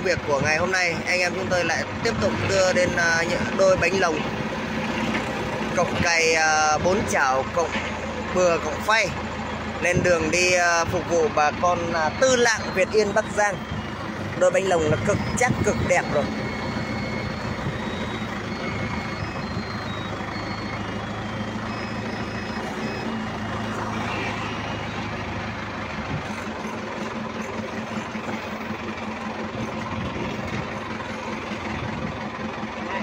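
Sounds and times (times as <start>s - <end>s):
forklift engine running: 0.0s - 33.0s.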